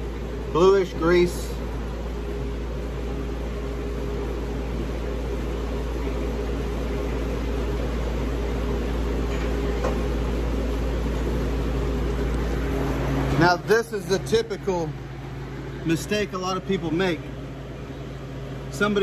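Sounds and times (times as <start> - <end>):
shop machinery humming: 0.0 - 19.0.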